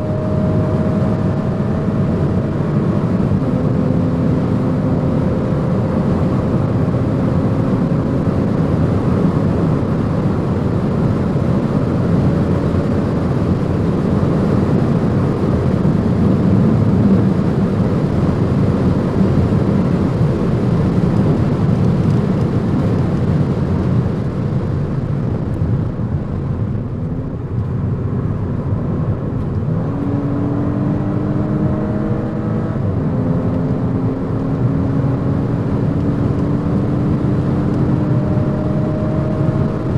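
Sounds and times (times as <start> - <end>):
car engine hum: 0.0 - 39.9
road and wind noise: 0.0 - 39.9.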